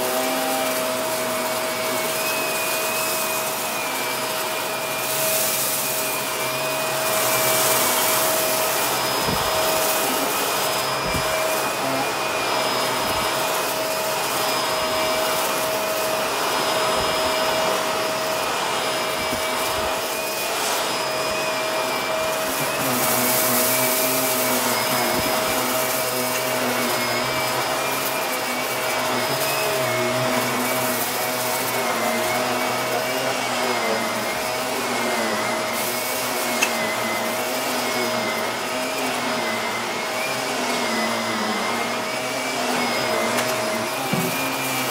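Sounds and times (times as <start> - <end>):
vacuum cleaner motor whine: 0.0 - 44.9.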